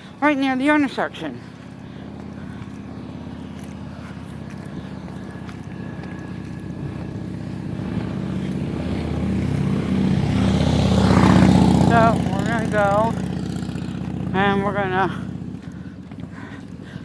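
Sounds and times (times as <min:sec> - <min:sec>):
car engine accelerating: 0:01.4 - 0:17.0.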